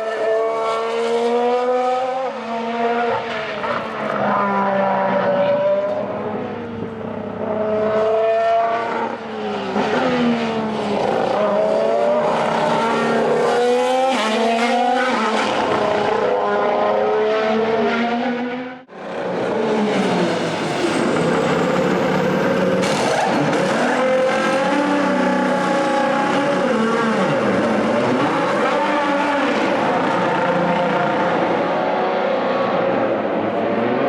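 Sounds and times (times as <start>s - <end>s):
racing car engine at speed: 0.0s - 34.0s.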